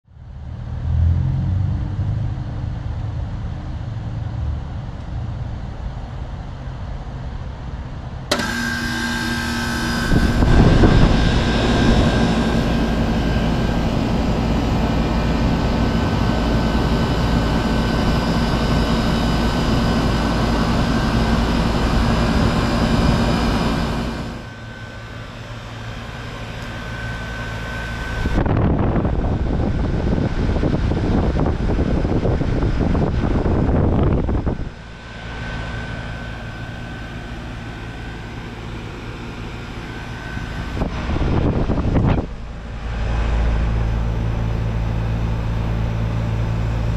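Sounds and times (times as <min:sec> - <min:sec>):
heat pump running with hum: 0:00.1 - 0:46.9.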